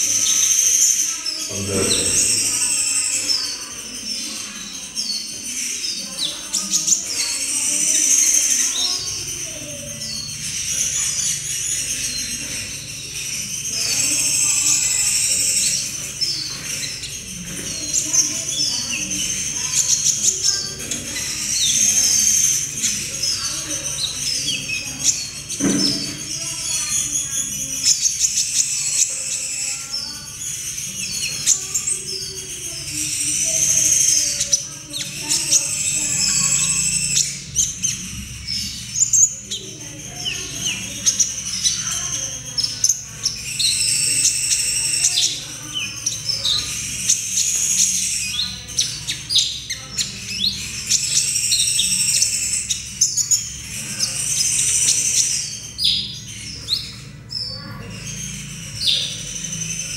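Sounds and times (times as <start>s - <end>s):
bird chirping and trilling: 0.0s - 59.9s.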